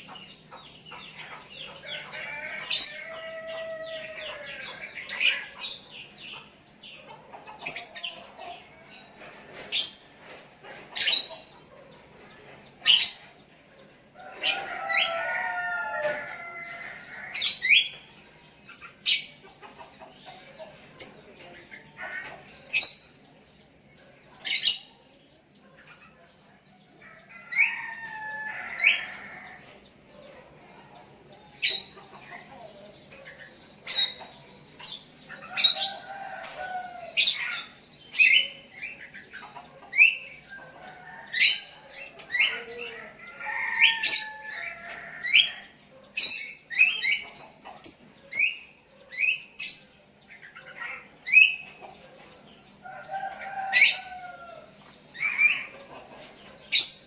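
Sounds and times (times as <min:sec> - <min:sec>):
birds chirping and whistling: 0:00.0 - 0:25.0, 0:25.8 - 0:57.0.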